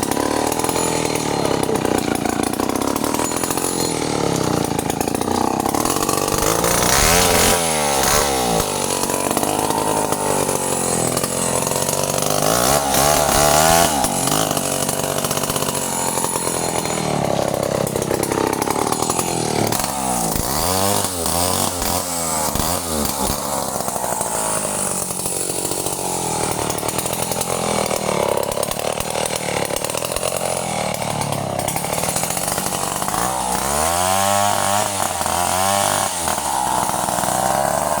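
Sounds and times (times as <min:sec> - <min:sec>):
chainsaw engine revving: 0:00.0 - 0:38.0.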